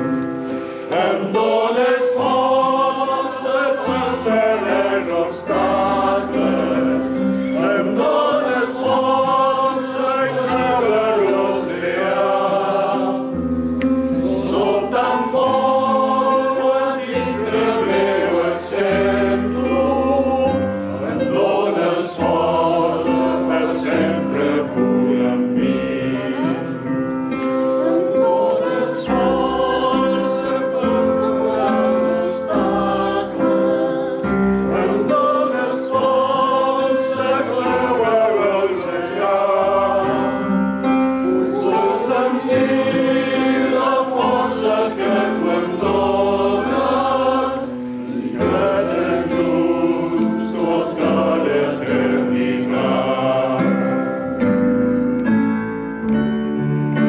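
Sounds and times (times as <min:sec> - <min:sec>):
gospel choir singing: 0:00.0 - 0:56.3
stage keyboard: 0:00.0 - 0:57.0
male solo voices singing: 0:00.9 - 0:26.9, 0:27.9 - 0:40.6, 0:41.2 - 0:54.1.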